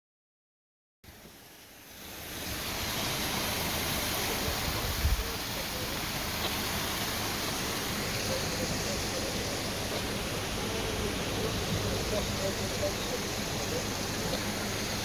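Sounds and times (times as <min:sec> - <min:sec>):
steady rushing noise: 0:01.1 - 0:15.0.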